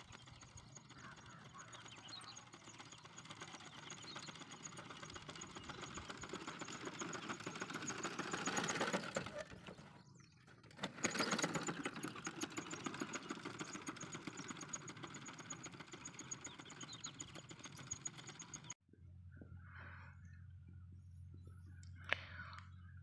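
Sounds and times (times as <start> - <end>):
tractor engine chugging: 0.0 - 18.8.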